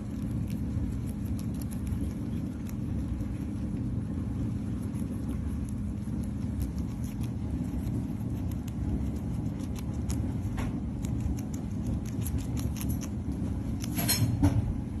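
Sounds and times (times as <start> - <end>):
guinea pigs crunching lettuce: 0.0 - 15.0
steady low rumble: 0.0 - 15.0.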